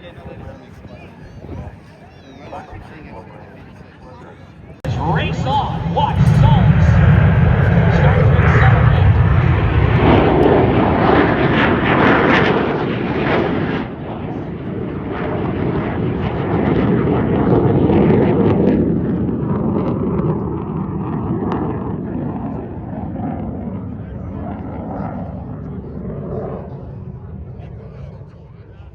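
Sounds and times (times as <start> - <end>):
aircraft engine passing low: 4.8 - 28.9.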